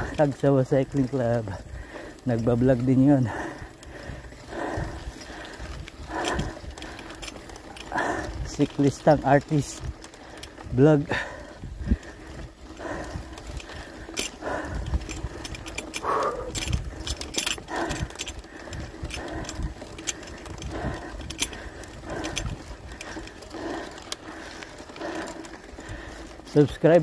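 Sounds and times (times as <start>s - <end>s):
bicycle tyres rumbling on gravel: 0.0s - 27.0s
bike and stone rattles: 0.0s - 27.0s.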